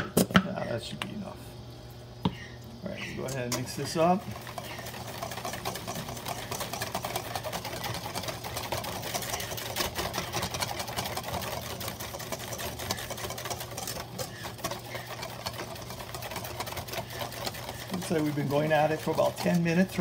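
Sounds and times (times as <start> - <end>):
low steady hum: 0.0 - 20.0
whisk beating in metal bowl: 2.9 - 20.0.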